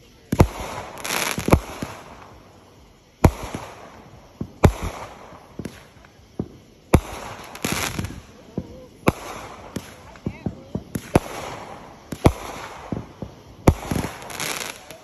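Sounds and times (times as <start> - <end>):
fireworks booming: 0.0 - 15.0
fireworks hissing: 0.0 - 15.0.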